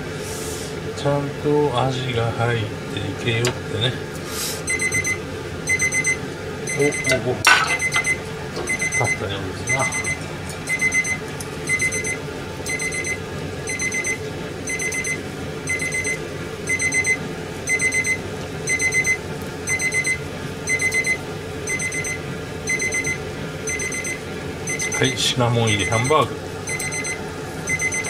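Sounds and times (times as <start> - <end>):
high-pitched electronic alarm beeps: 4.7 - 28.0.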